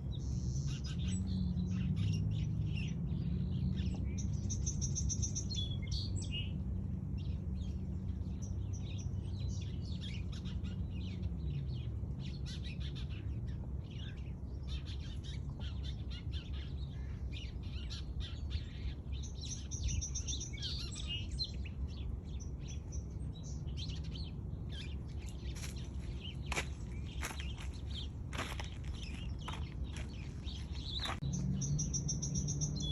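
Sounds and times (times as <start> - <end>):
birds chirping and singing: 0.0 - 32.9
steady low rumble: 0.0 - 32.9.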